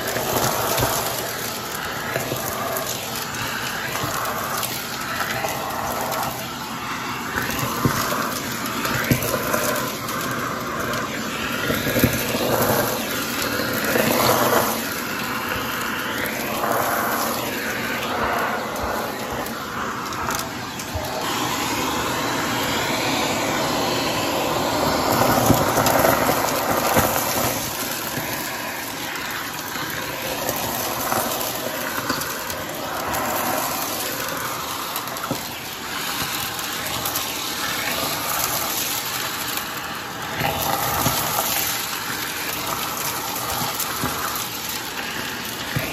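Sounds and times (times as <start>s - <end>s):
vacuum cleaner sucking on carpet: 0.0s - 45.9s.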